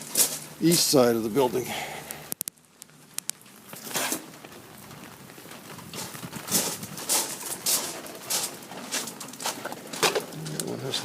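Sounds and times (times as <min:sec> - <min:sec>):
footsteps on wet ground: 0:00.0 - 0:11.0
rain hissing: 0:00.0 - 0:11.0.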